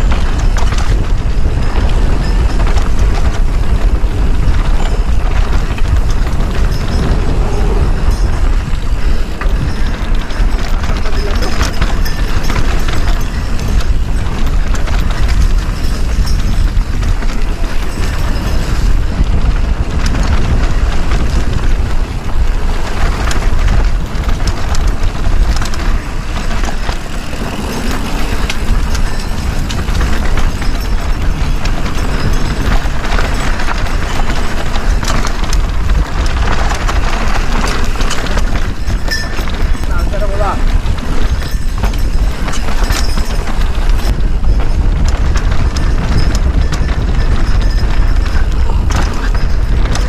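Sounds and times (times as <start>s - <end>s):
bike tyres clattering over rock: 0.0s - 50.0s
wind rumble on microphone: 0.0s - 50.0s.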